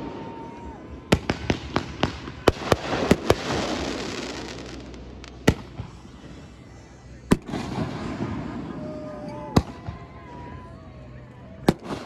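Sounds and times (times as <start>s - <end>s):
fireworks crackle: 0.0s - 9.7s
fireworks bangs: 0.0s - 10.1s.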